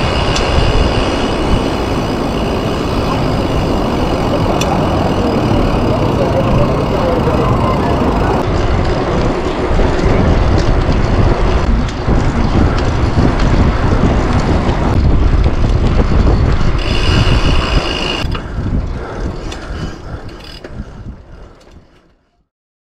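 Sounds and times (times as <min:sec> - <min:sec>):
wind buffeting microphone: 0:00.0 - 0:22.2
bike tyres rolling on tarmac: 0:00.0 - 0:22.3.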